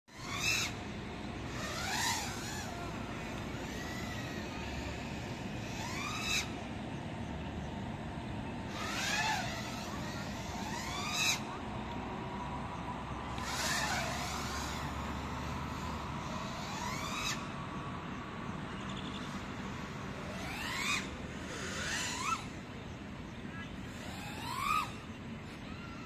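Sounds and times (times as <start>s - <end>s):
drone motors whining: 0.1s - 26.0s
steady background hiss: 0.1s - 26.0s.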